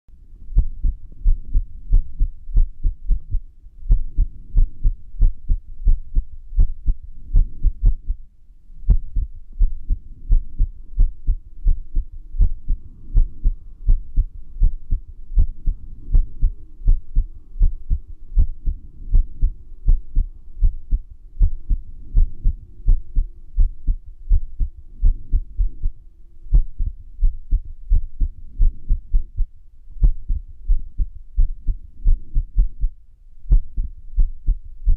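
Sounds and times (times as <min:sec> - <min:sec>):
irregular heartbeat thumps: 0:00.5 - 0:34.9.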